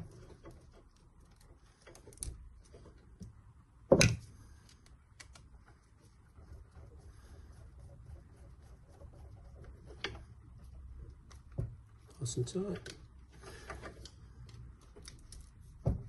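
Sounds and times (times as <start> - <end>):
hands handling wiring: 0.0 - 16.0.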